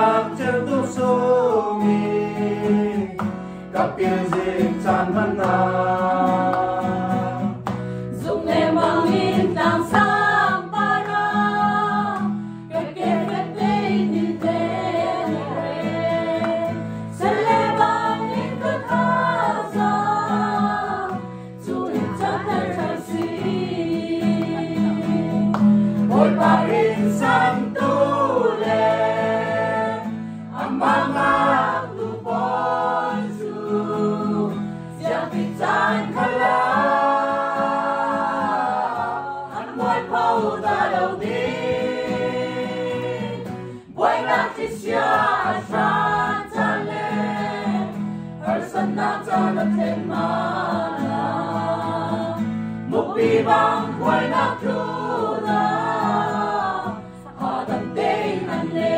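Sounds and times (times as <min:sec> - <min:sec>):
choir singing gospel: 0:00.0 - 0:58.9.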